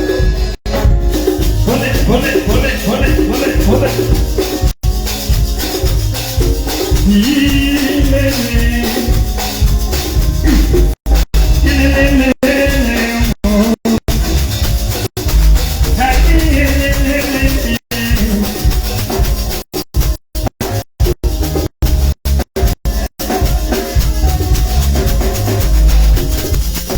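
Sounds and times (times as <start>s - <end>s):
heavy bass: 0.0s - 26.9s
live band music through speakers: 0.0s - 26.9s
shaker and drum percussion: 0.0s - 26.9s.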